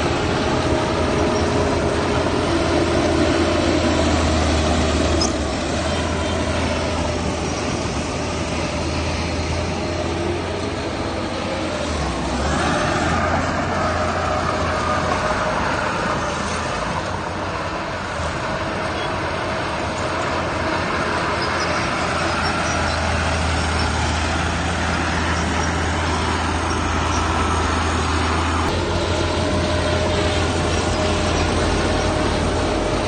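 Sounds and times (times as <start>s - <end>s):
heavy diesel engine running: 0.0s - 33.0s
steady whine: 0.0s - 33.0s.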